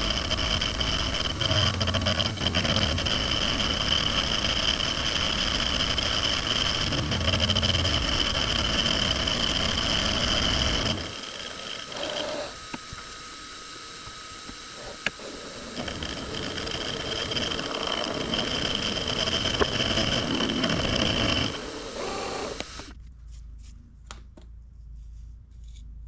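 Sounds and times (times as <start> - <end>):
milling machine cutting with high whine: 0.0 - 23.0
quiet machine hum: 0.0 - 26.0.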